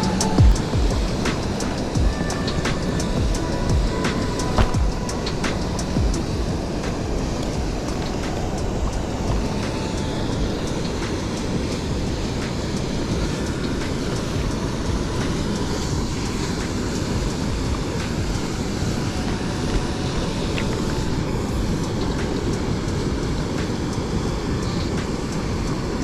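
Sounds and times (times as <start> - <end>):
mountain stream flowing: 0.0 - 26.0.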